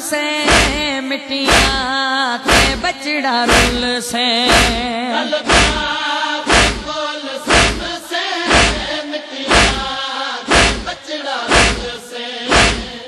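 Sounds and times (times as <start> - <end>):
young man chanting: 0.0 - 13.0
rhythmic chest-beating thumps: 0.4 - 1.9, 2.5 - 3.9, 4.5 - 13.0.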